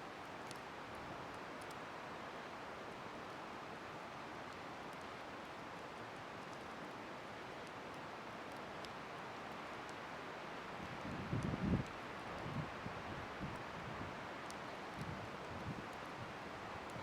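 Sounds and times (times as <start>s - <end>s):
small fire crackles: 0.0s - 17.0s.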